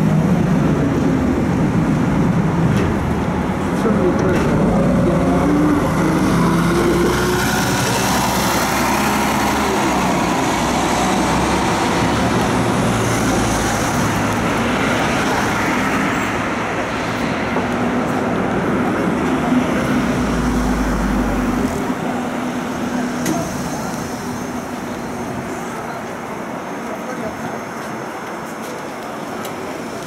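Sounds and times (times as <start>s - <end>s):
street traffic: 0.0s - 30.0s
tram passing: 0.0s - 30.0s
tram running rumble and hiss: 0.0s - 30.0s.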